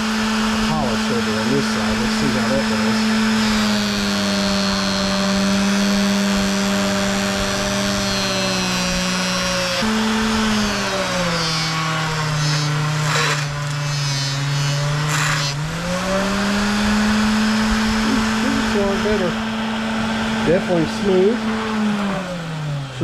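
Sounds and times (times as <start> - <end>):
metal shaft rubbing on buffing wheel: 0.0 - 19.5
bench grinder motor hum: 0.0 - 23.0.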